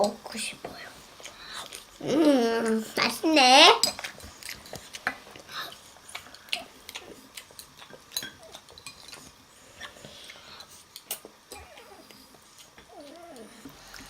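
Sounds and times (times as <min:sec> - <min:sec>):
chewing and mouth noises: 0:01.1 - 0:03.2, 0:03.8 - 0:14.0.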